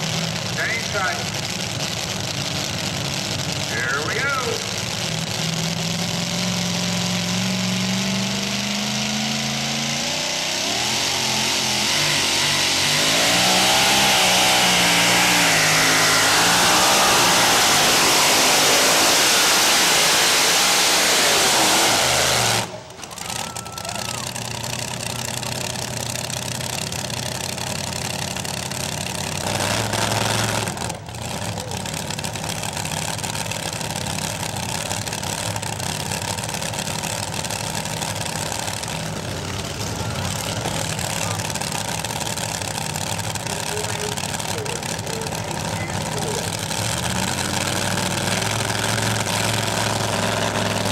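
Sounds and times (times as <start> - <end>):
engine idling: 0.0 - 50.9
truck engine at full throttle: 0.0 - 50.9.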